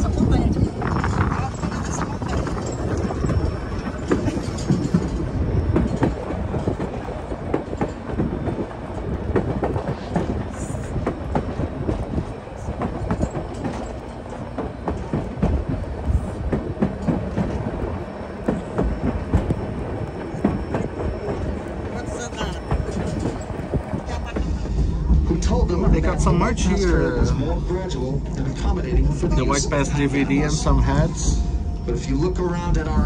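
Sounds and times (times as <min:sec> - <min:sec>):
wheels clattering over rail joints: 0:00.0 - 0:28.8
train cars rumbling: 0:00.0 - 0:33.0.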